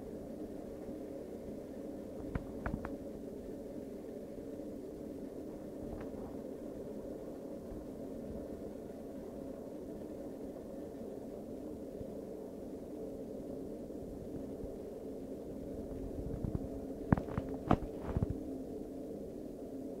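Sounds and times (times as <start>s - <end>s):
low humming drone: 0.0s - 20.0s.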